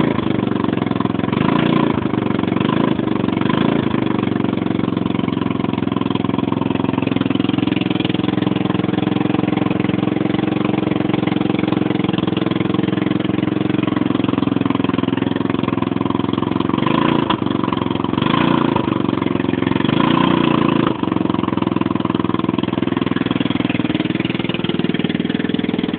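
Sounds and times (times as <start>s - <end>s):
scooter engine running loudly: 0.0s - 25.9s.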